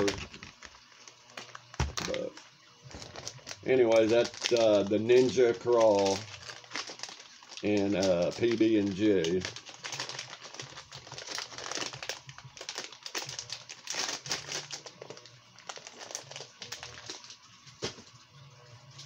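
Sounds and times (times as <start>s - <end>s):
plastic packaging crinkling: 0.0s - 18.2s.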